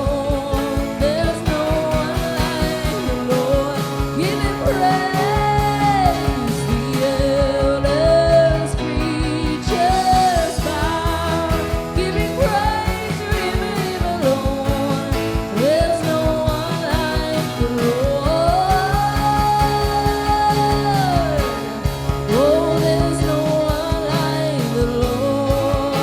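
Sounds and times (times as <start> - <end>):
worship band music: 0.0 - 26.0.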